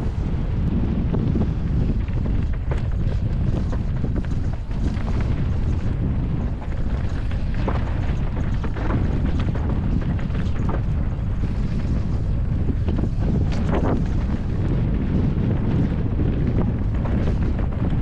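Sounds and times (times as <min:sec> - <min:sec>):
bike clicks and rattles: 0:00.0 - 0:18.0
bike rolling low rumble: 0:00.0 - 0:18.0
wind buffeting microphone: 0:00.0 - 0:18.0.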